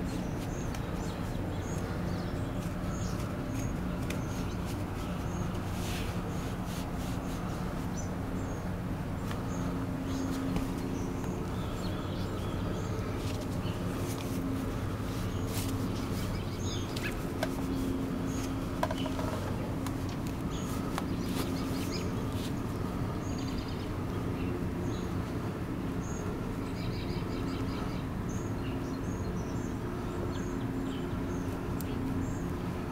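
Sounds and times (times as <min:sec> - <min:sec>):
low mechanical hum: 0:00.0 - 0:32.9
small birds chirping: 0:00.0 - 0:32.9.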